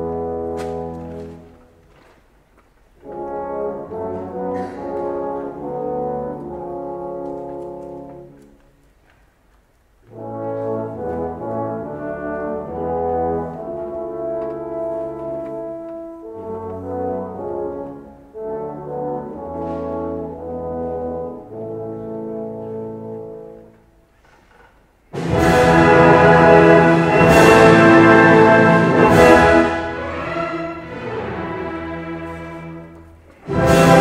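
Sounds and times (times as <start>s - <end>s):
full orchestra playing loudly: 0.0s - 1.6s, 3.0s - 8.5s, 10.0s - 23.7s, 25.1s - 34.0s
brass playing soft chorale: 3.0s - 8.5s, 10.0s - 23.7s, 25.2s - 34.0s.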